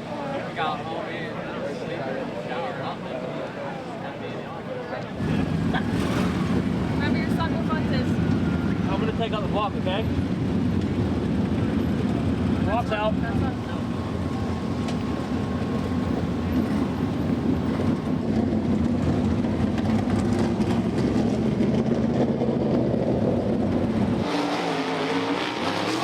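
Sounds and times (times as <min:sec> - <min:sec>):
race car engines revving: 0:00.0 - 0:26.0
race car engines rumbling: 0:00.0 - 0:26.0.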